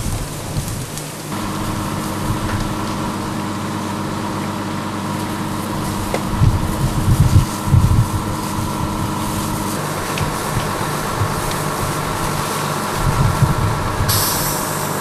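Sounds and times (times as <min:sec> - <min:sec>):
low rumbles: 0:00.0 - 0:14.7
diesel engine and pump running: 0:00.0 - 0:15.0.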